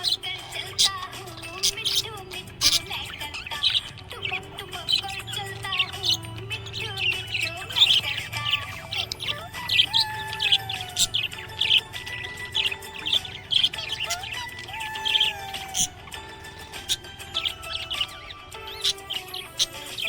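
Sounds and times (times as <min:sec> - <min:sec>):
background music: 0:00.0 - 0:20.0
budgies chirping: 0:00.0 - 0:20.0.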